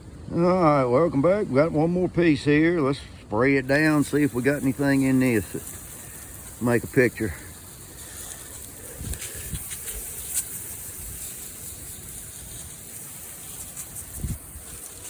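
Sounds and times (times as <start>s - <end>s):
water spray hissing on wood: 0.0s - 15.0s.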